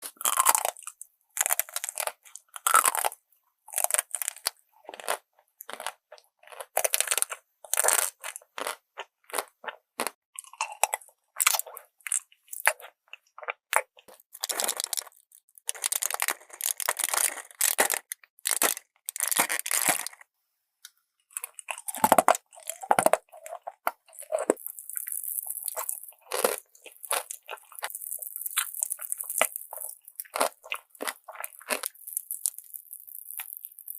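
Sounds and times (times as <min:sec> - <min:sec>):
crunchy eating and chewing: 0:00.0 - 0:20.3, 0:21.3 - 0:33.9.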